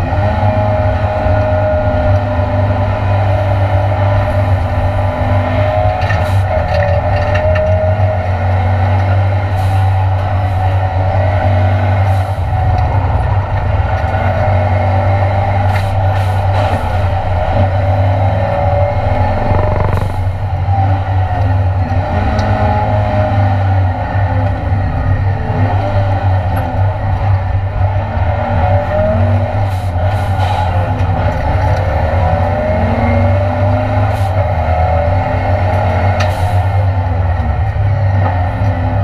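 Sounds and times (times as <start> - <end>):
race car engine droning: 0.0 - 39.0.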